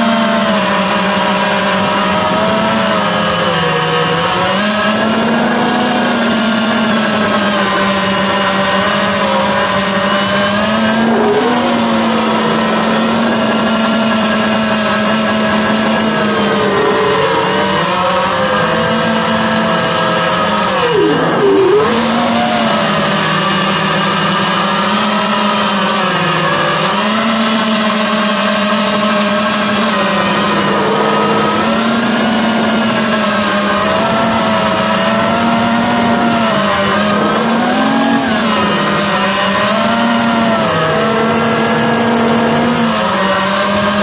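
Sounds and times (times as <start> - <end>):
drone motors whining: 0.0 - 44.0.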